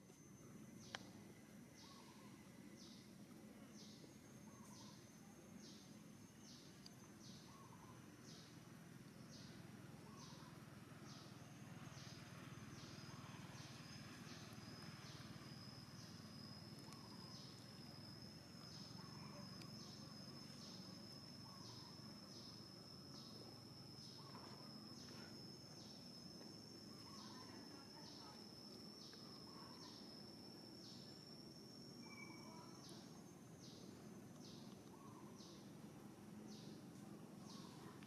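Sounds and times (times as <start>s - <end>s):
high insect whine: 0.0s - 38.0s
insect chirping in high buzzes: 0.0s - 38.0s.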